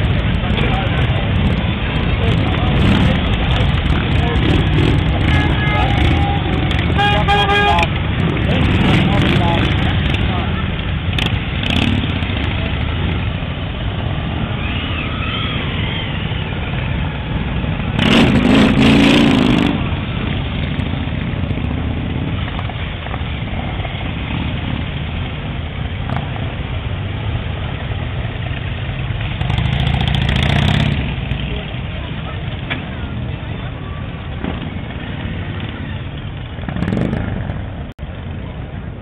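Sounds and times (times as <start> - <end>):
motorcycle engines rumbling: 0.0 - 39.0.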